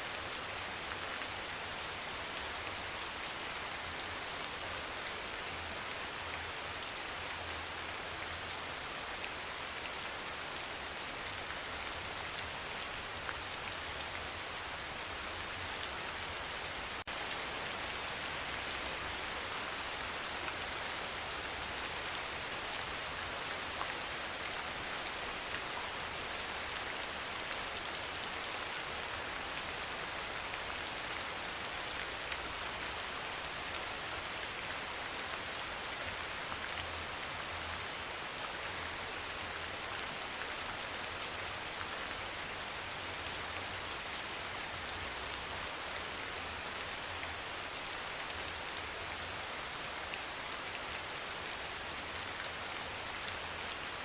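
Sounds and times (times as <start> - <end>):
soft rain: 0.0 - 54.0.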